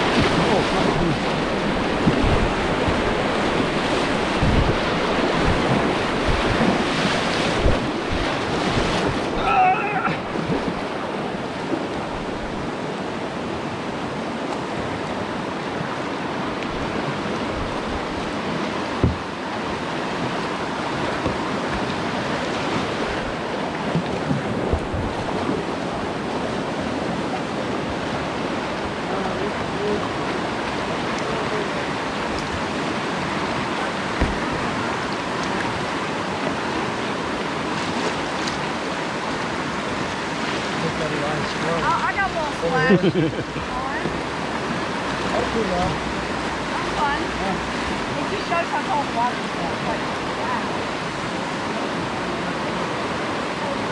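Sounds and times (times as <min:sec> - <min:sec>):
whitewater rushing: 0:00.0 - 0:53.9.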